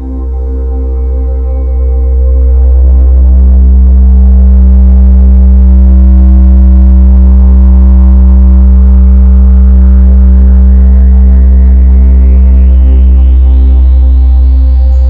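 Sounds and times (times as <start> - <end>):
deep ambient drone: 0.0 - 15.0.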